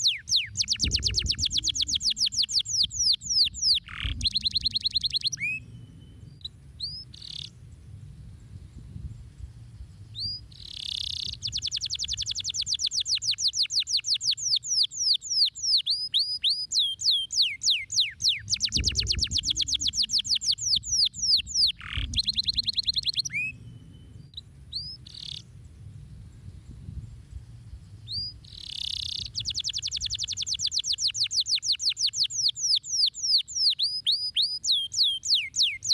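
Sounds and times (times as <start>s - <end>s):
canary singing trills: 0.0s - 7.6s, 10.1s - 25.6s, 27.7s - 35.9s.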